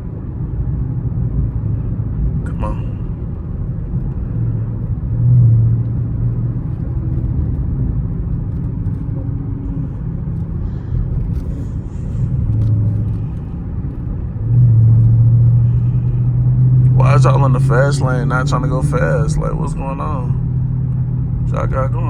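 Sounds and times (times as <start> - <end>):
car engine exhaust drone: 0.0 - 22.0.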